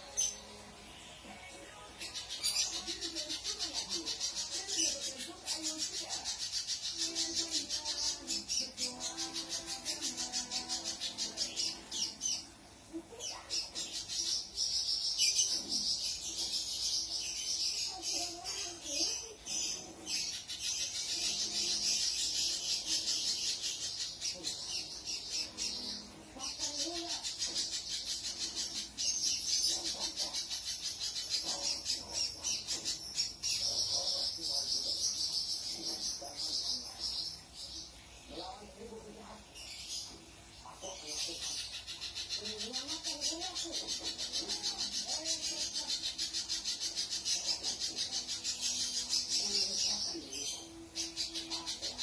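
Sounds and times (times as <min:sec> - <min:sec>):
bird's high-pitched chattering trill: 0:02.0 - 0:38.0, 0:41.2 - 0:52.0.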